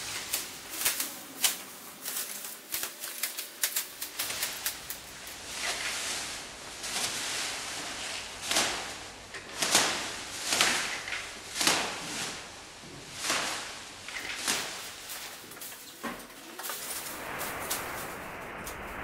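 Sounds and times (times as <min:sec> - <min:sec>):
plastic strips rustling: 0:00.0 - 0:19.0.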